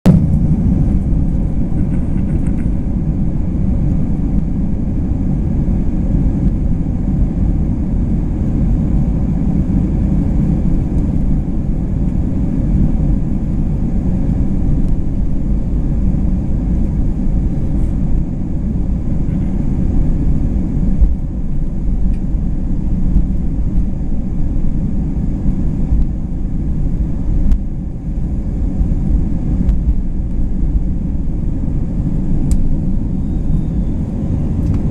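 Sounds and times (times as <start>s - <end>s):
jet cabin rumble: 0.0s - 34.9s.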